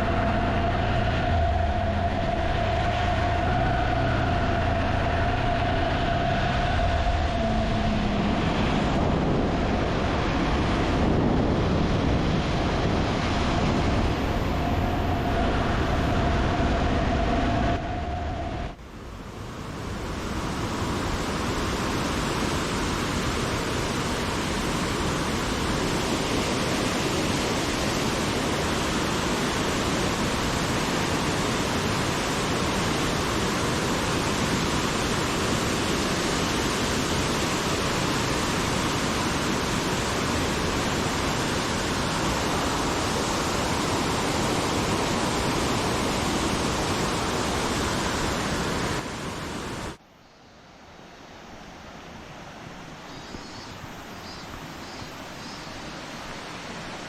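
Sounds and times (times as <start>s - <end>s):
rushing river torrent: 0.0s - 17.9s, 18.7s - 57.0s.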